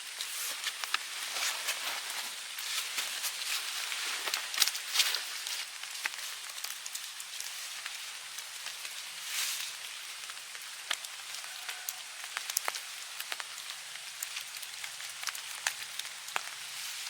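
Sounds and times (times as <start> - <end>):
steady hiss: 0.0 - 17.0
water drops tapping on leaves: 0.1 - 17.0.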